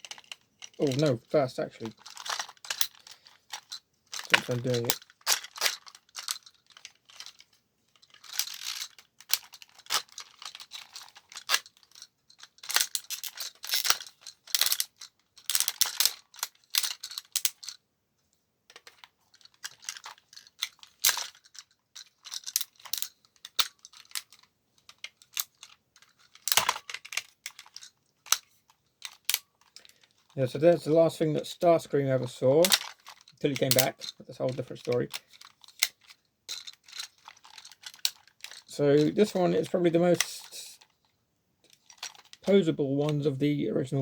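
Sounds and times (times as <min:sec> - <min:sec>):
plastic toy parts clicking and scraping: 0:00.0 - 0:17.8, 0:18.7 - 0:44.0.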